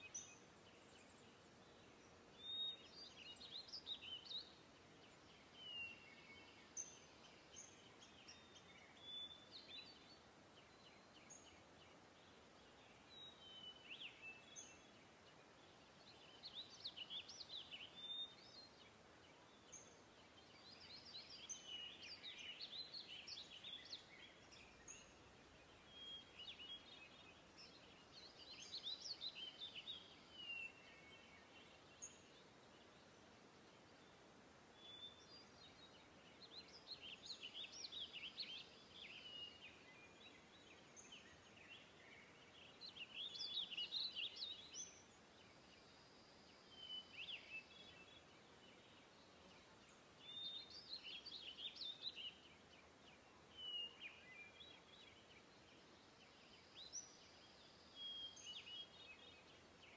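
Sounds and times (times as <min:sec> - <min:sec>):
background hiss: 0:00.0 - 0:59.9
faint birdsong twittering: 0:00.0 - 0:59.9.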